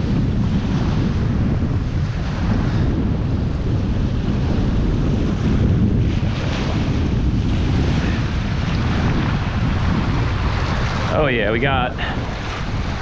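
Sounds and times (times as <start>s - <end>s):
waves washing onto shore: 0.0s - 13.0s
wind buffeting the microphone: 0.0s - 13.0s.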